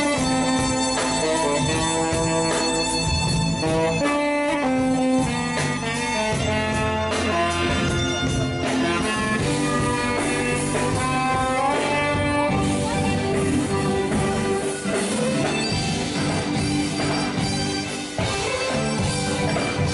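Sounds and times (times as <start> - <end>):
live band playing: 0.0 - 19.9.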